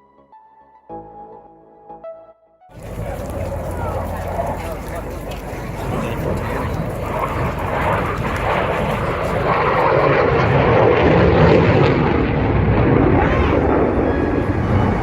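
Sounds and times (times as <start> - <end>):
plane engine roar: 2.7 - 15.0.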